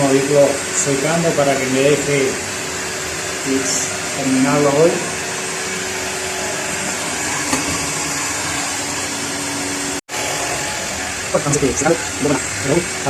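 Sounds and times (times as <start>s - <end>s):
hot-air blower rushing air: 0.0s - 13.0s
motor hum: 0.0s - 13.0s.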